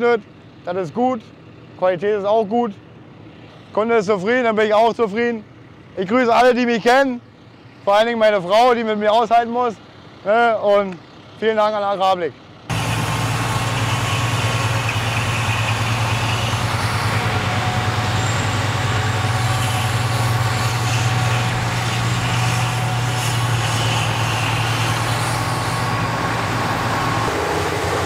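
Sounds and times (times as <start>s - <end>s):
tractor diesel engine hum: 0.0s - 28.0s.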